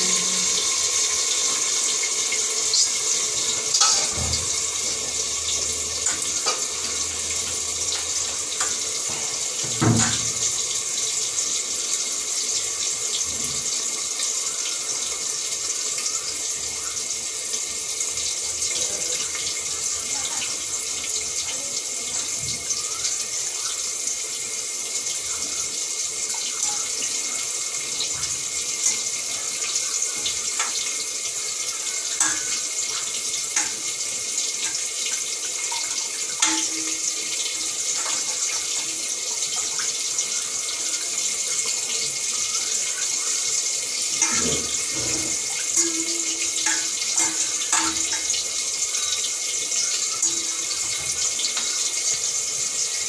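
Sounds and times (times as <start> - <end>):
tap water running into steel bowl: 0.0 - 53.0.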